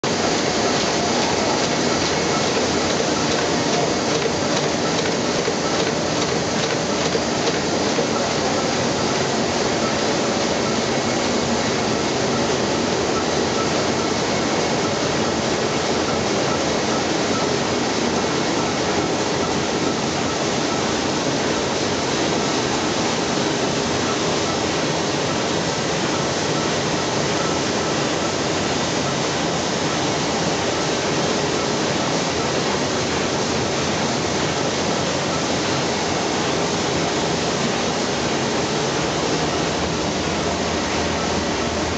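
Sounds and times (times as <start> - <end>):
printing press running: 0.0 - 41.9.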